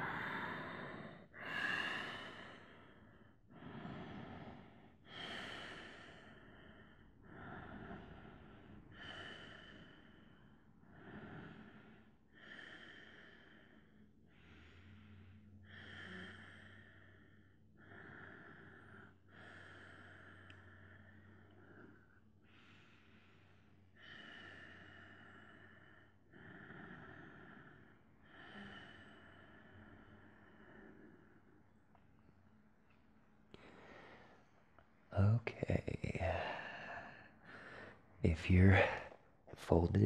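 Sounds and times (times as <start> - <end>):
man breathing deeply: 0.0 - 40.0.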